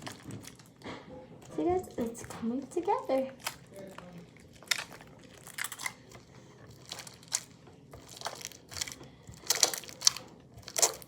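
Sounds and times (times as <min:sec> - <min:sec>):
wet slime squelching by hand: 0:00.0 - 0:11.0.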